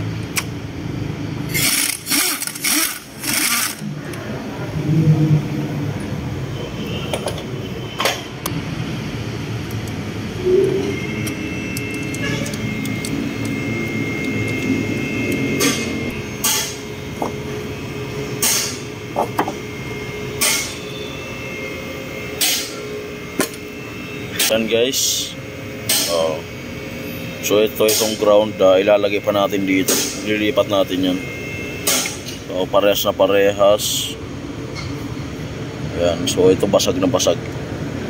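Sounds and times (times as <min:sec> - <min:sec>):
low background hum: 0:00.0 - 0:38.0.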